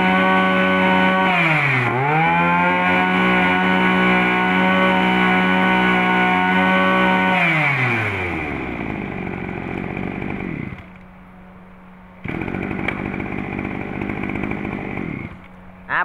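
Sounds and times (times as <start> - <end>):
brush cutter engine revving: 0.0 - 11.0, 12.2 - 15.5.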